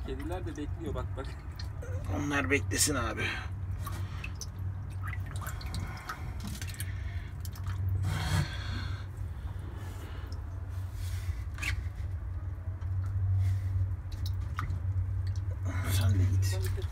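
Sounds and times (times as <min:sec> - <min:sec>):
low hum: 0:00.0 - 0:16.9
water sloshing with fish: 0:00.0 - 0:16.9.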